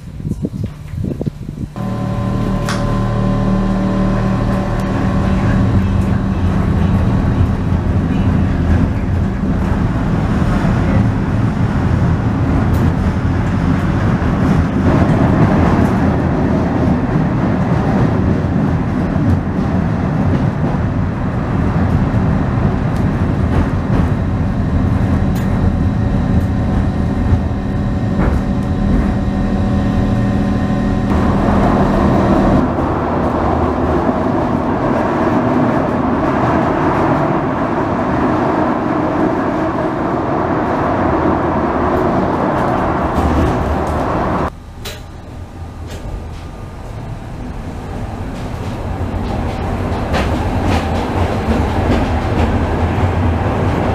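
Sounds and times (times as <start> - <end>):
steady hum: 0.0 - 17.4, 20.9 - 53.9
funicular car rumbling on rails: 0.0 - 53.9.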